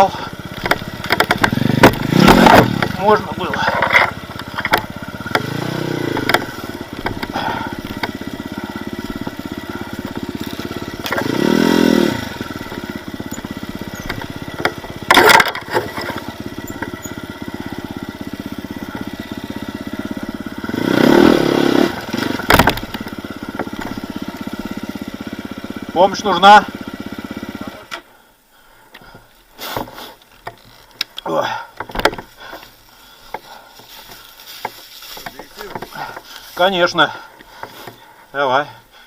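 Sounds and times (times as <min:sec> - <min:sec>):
dirt bike engine revving: 0:00.0 - 0:28.2, 0:29.1 - 0:38.2.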